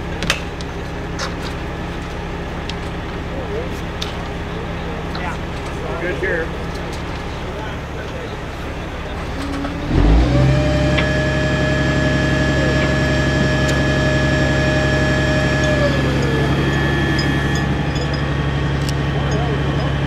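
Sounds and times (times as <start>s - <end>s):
steady whine: 0.0s - 20.0s
truck engine running: 0.0s - 20.0s.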